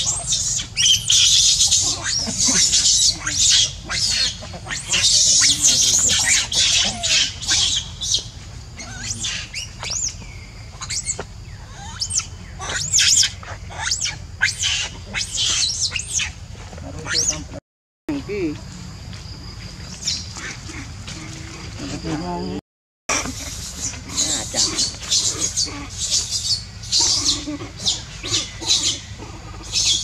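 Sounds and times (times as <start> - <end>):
young monkeys screeching: 0.0 - 17.6, 23.1 - 30.0.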